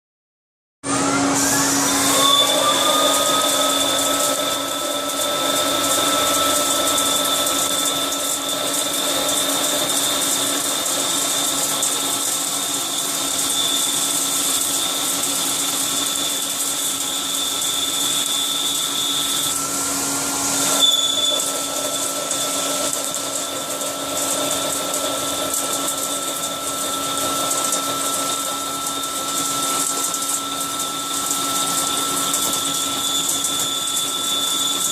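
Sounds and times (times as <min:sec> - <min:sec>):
milling machine spindle whine: 0:00.9 - 0:34.9.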